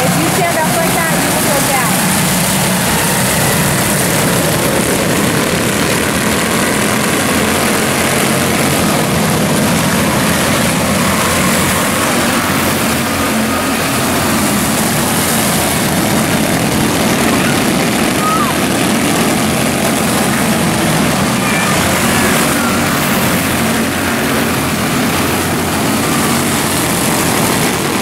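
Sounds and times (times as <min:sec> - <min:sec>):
race car engines buzzing: 0:00.0 - 0:28.0.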